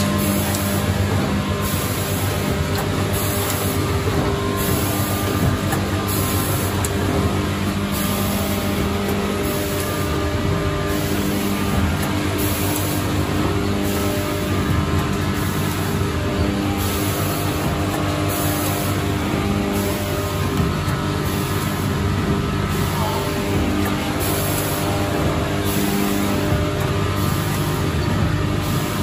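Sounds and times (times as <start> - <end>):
packing machine humming: 0.0 - 29.0.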